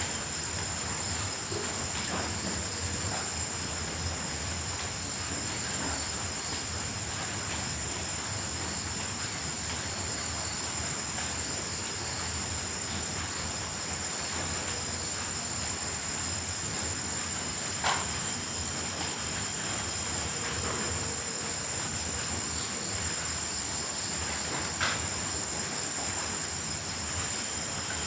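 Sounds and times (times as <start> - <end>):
crickets and grasshoppers chirring: 0.0 - 28.0.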